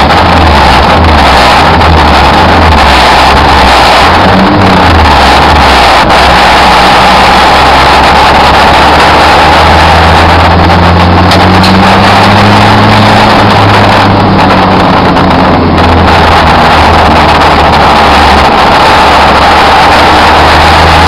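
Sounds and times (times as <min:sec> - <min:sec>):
race car engine running hard: 0:00.0 - 0:21.0.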